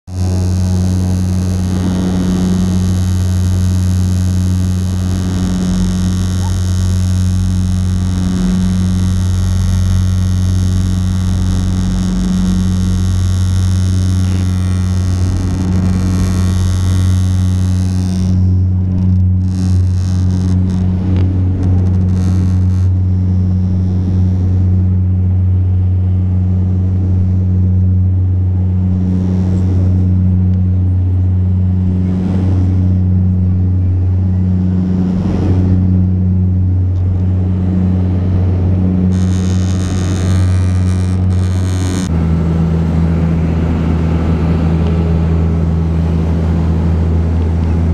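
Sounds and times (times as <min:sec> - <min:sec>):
propeller engine drone in cabin: 0:00.0 - 0:47.9.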